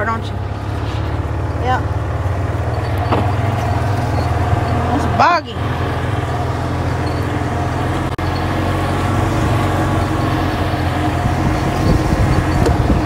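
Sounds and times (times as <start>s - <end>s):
golf cart motor humming: 0.0s - 13.0s.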